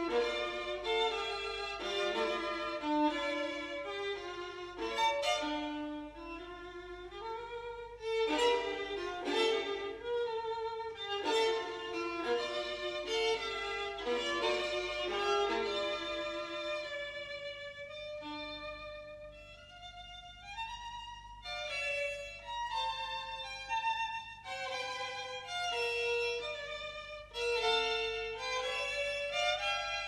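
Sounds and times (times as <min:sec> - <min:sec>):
violin melody: 0:00.0 - 0:30.0.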